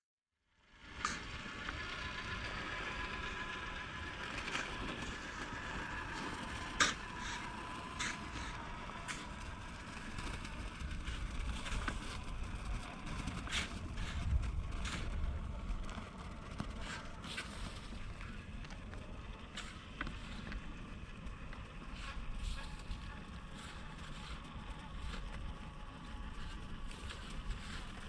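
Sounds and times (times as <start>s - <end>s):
truck motor whine: 0.6s - 28.0s.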